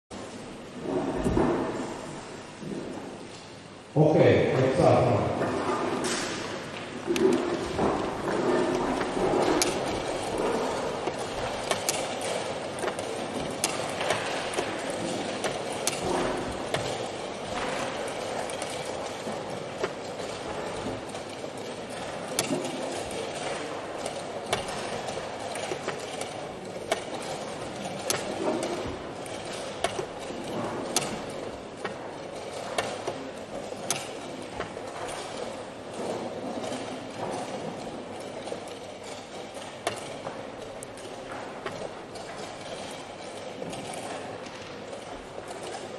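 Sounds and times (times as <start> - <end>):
steady background noise: 0.1 - 45.9
wooden chess pieces knocking: 5.4 - 45.9.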